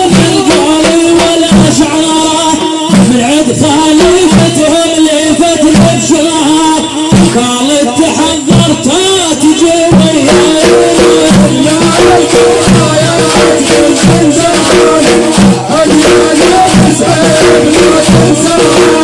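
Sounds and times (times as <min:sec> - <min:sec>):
shaker-like percussion: 0:00.0 - 0:19.0.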